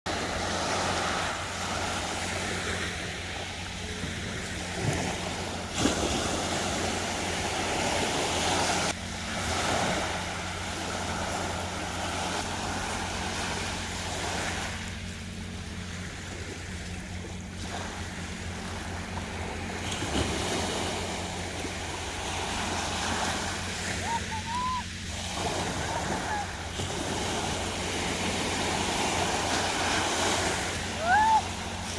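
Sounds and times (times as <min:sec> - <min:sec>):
sea waves breaking on shore: 0:00.0 - 0:31.9
steady low hum: 0:00.1 - 0:31.9.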